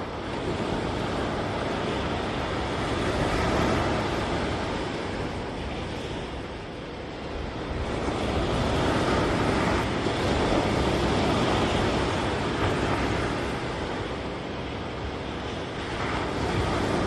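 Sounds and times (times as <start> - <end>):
ocean surf rushing: 0.0 - 17.0
wind on microphone: 0.0 - 17.0.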